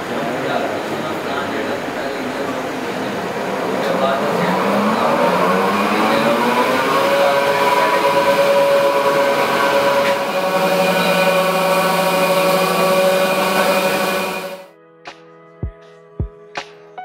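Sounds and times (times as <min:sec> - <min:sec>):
machine spindle whine: 0:00.0 - 0:14.7.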